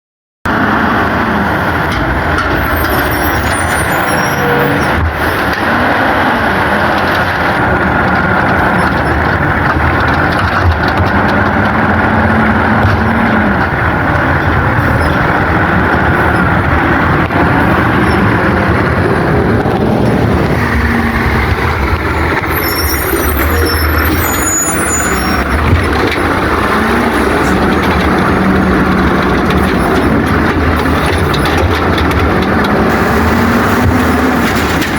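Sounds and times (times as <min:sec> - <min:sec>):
truck diesel engine revving: 0:00.5 - 0:34.9.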